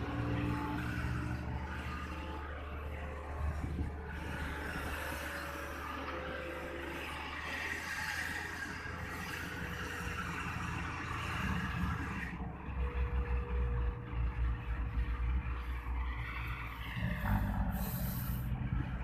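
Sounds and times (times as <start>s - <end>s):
diesel engine rumble: 0.0s - 19.0s.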